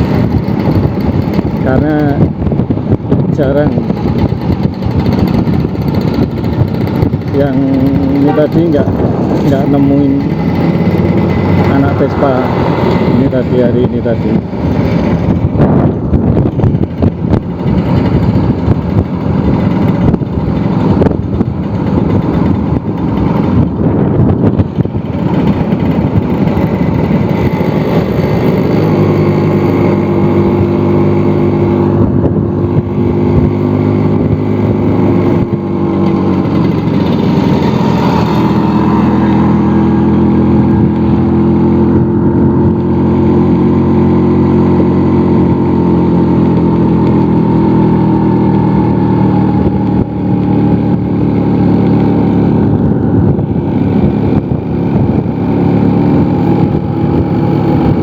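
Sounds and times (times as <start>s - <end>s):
scooter engine running: 0.0s - 58.0s
wind buffeting microphone: 0.0s - 58.0s.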